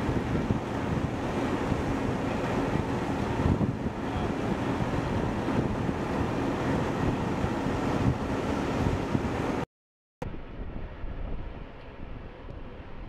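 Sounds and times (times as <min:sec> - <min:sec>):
wind buffeting microphone: 0:00.0 - 0:09.6, 0:10.2 - 0:13.0.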